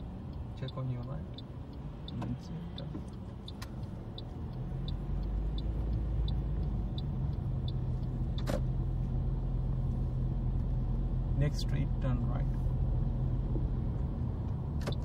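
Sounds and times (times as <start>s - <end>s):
car engine and road noise: 0.0s - 15.0s
turn indicator ticking: 0.0s - 15.0s.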